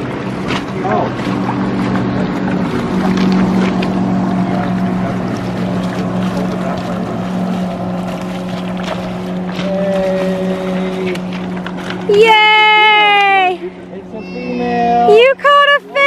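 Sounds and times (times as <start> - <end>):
motorboat engine drone: 0.0 - 16.0.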